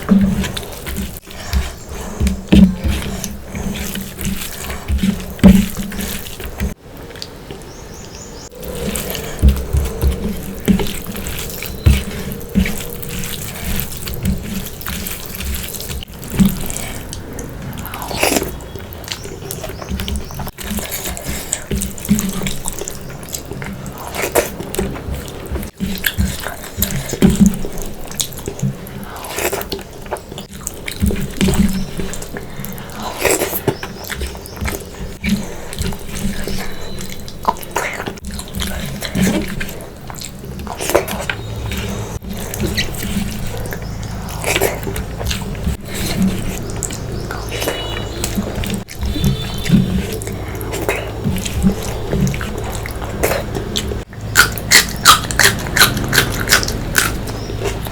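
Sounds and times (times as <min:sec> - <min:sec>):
person chewing and mouth sounds: 0:00.0 - 0:57.9.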